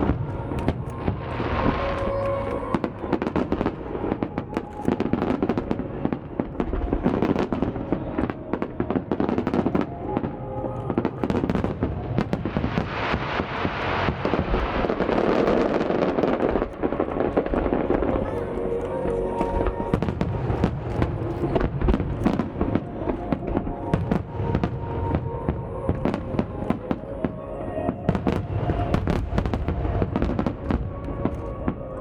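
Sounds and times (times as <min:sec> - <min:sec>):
fireworks bursting and crackling: 0:00.0 - 0:32.0
music playing: 0:00.0 - 0:32.0.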